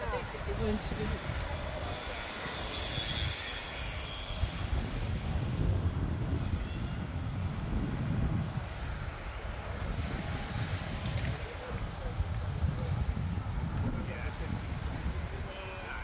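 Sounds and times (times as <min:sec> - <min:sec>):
faint road ambience: 0:00.0 - 0:16.0
wind buffeting microphone: 0:00.0 - 0:16.0.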